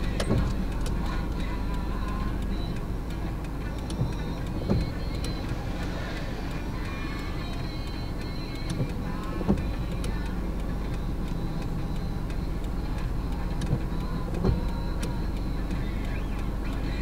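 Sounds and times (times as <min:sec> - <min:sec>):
car engine idling: 0:00.0 - 0:17.0
light clicks: 0:00.0 - 0:17.0.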